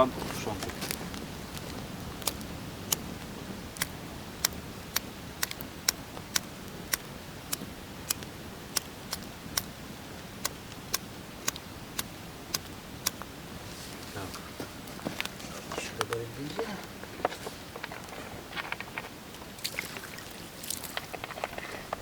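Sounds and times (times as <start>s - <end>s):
campfire crackling pops: 0.0s - 13.6s, 14.2s - 22.0s
hiss of flame: 0.0s - 17.8s.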